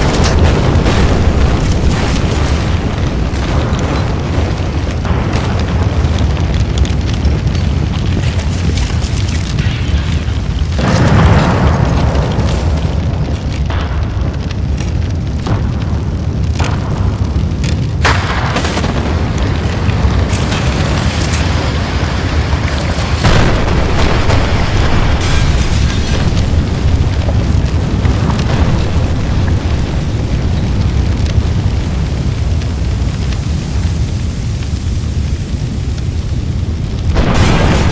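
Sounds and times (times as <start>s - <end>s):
explosion cracks and booms: 0.0s - 37.9s
low rumble of fire burning: 0.0s - 37.9s.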